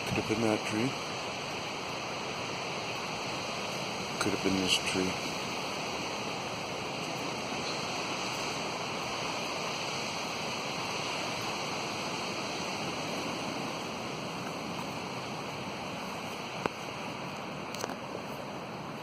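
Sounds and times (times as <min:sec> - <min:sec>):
rushing storm noise: 0:00.0 - 0:19.0.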